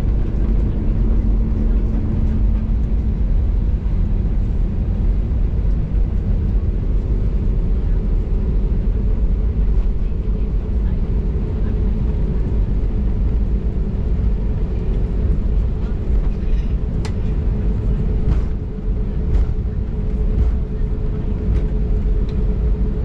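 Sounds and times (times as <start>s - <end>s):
aircraft cabin rumble and hum: 0.0s - 23.0s.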